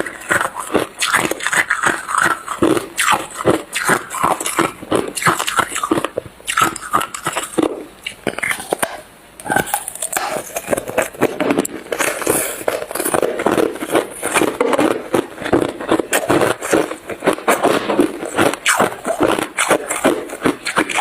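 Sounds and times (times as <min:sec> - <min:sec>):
ice being chewed and crunched: 0:00.0 - 0:21.0.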